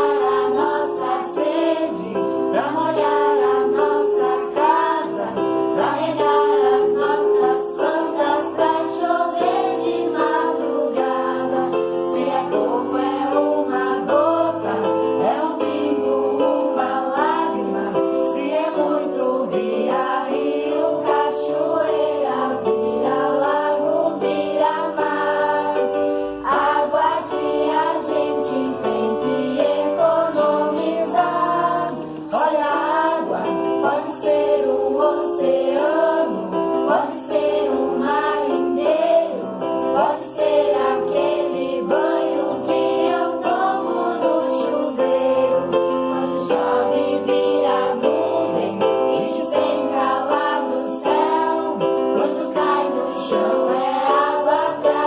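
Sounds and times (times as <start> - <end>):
choir singing with accompaniment: 0.0 - 55.0.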